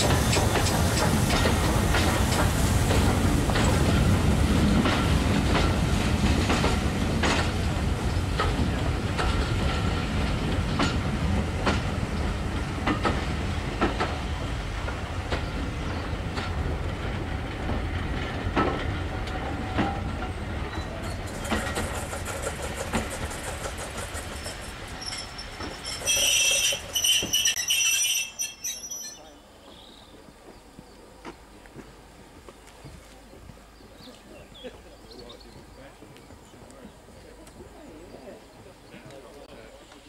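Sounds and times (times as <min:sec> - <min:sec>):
train wheels clicking over rail joints: 0:00.0 - 0:32.9
low train rumble: 0:00.0 - 0:40.0.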